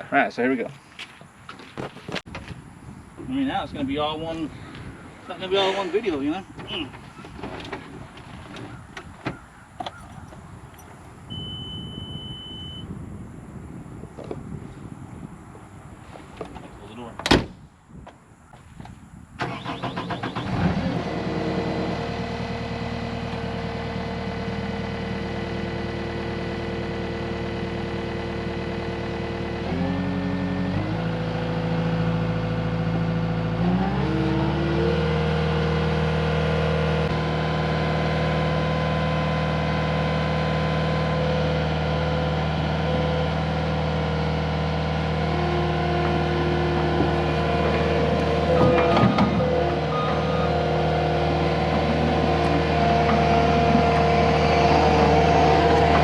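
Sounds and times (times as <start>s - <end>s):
diesel engine starting and running: 5.2s - 13.5s, 19.4s - 56.0s.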